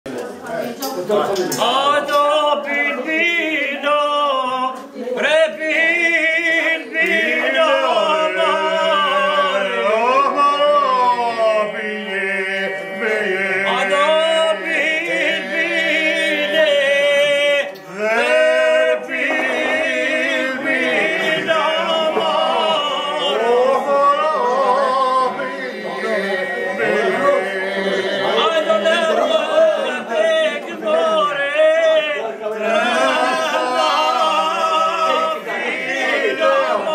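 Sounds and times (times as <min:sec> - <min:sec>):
men singing unaccompanied: 0:01.2 - 0:36.9.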